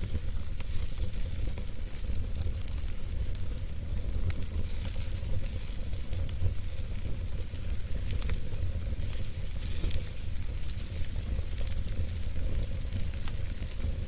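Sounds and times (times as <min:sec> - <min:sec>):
fire crackling and popping: 0:00.0 - 0:14.0
wood fire rumbling and hissing: 0:00.0 - 0:14.0.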